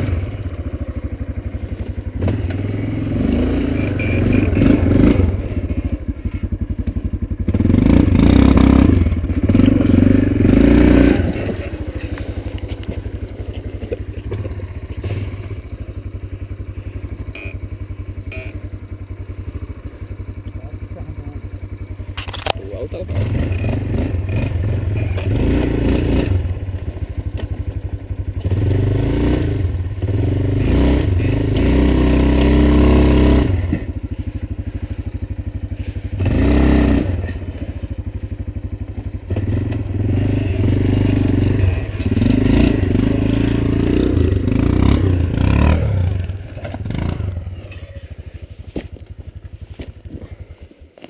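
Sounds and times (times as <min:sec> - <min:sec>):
quad bike engine labouring: 0:00.0 - 0:51.0.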